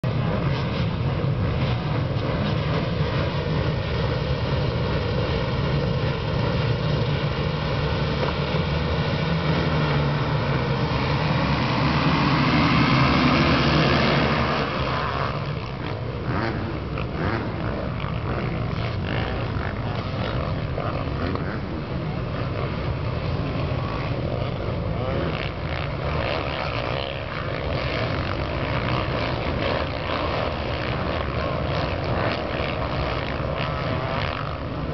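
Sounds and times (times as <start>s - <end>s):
motocross bikes revving: 0.0s - 34.9s.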